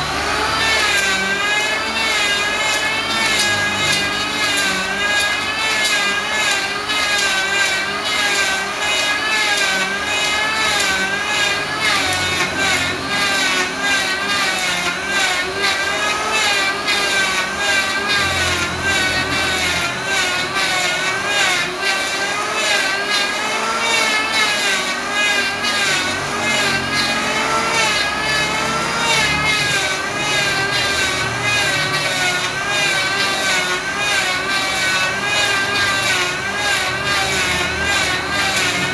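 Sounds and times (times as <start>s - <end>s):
electric planer cutting wood: 0.0s - 38.9s.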